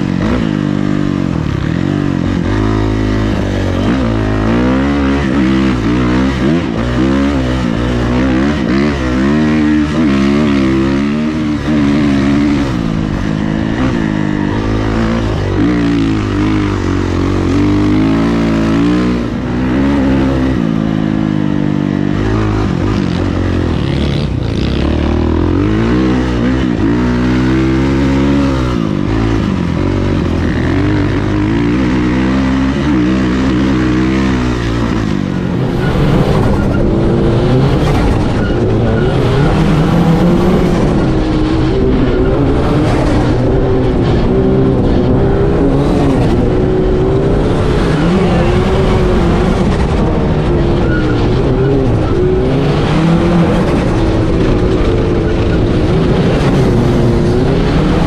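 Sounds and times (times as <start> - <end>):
buggy engine running: 0.0 - 58.0
dirt bike engine revving: 0.0 - 58.0.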